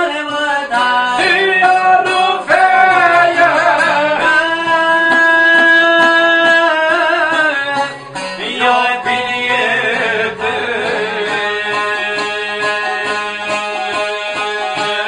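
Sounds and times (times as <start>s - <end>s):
long-necked lute strummed: 0.0s - 15.0s.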